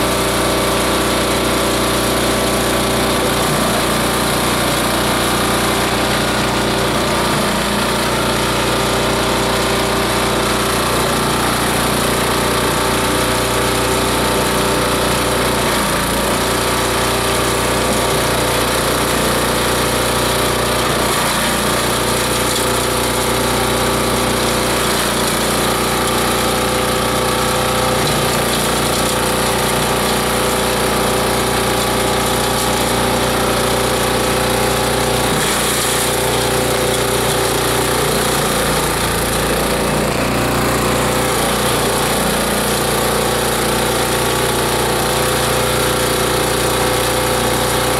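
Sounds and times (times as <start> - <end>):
shredder grinding plant material: 0.0 - 47.9.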